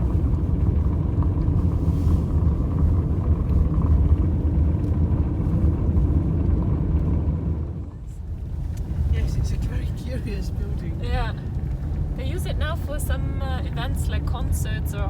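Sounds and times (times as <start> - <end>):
car in motion rumble: 0.0 - 15.0.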